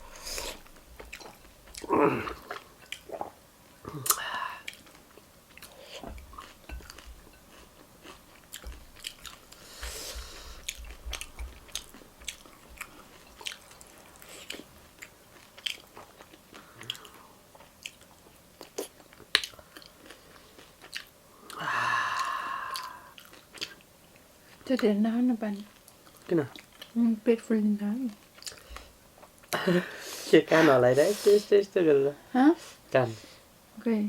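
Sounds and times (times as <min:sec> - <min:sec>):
person chewing crunchy food: 0:00.0 - 0:24.7, 0:25.7 - 0:27.0, 0:28.2 - 0:29.6.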